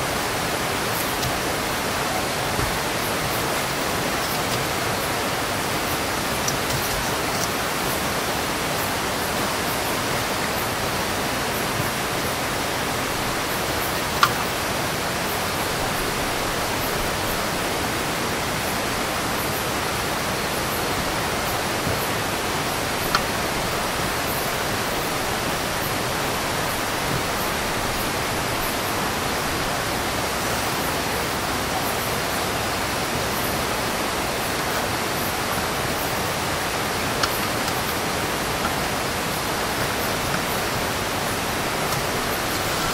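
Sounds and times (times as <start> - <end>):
flowing river water: 0.0 - 42.9.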